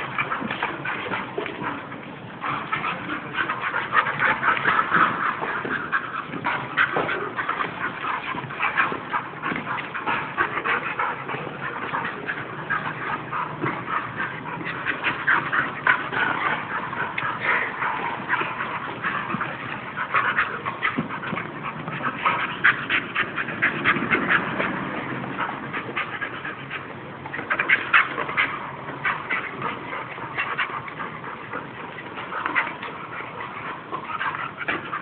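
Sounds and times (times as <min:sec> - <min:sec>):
dogs making short noises: 0:00.0 - 0:35.0.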